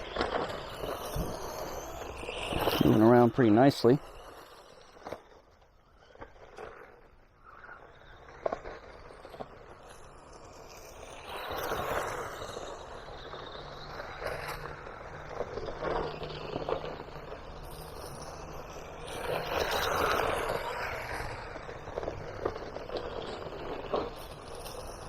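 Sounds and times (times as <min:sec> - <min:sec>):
rc car motor and tyres: 0:00.0 - 0:25.0.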